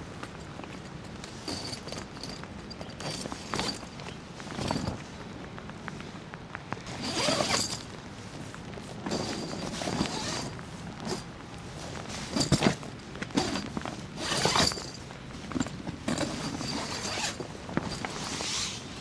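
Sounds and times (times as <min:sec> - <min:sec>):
handling knocks and clatter: 0:00.0 - 0:05.3, 0:06.8 - 0:19.0
rustling: 0:00.0 - 0:05.3, 0:06.8 - 0:19.0.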